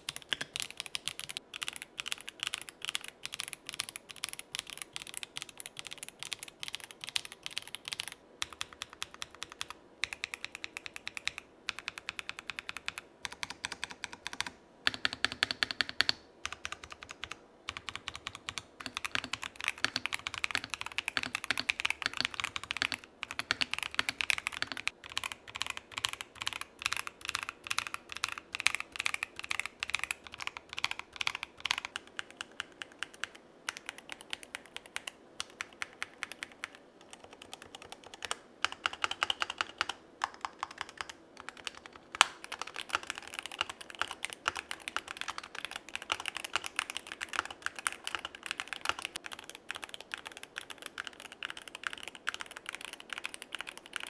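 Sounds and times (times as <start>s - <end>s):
fast typing on mechanical keyboard: 0.0s - 54.0s.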